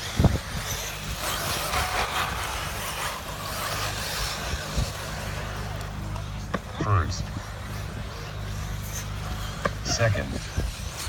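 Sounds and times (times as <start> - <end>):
rc cars electric motors hissing: 0.0 - 6.4, 7.3 - 11.0
tyres on dirt: 0.0 - 11.0.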